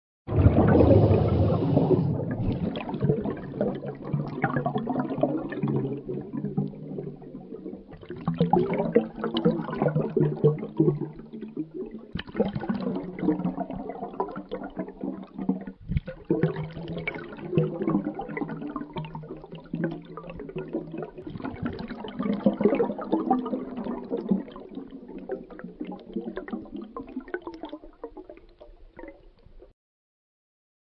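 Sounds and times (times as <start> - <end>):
underwater bubbles streaming: 0.3 - 29.7.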